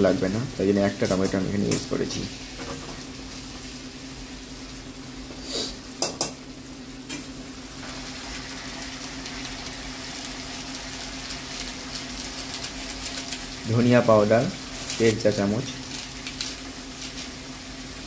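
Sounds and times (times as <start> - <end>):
paste sizzling in hot oil: 0.0 - 6.0, 7.7 - 18.0.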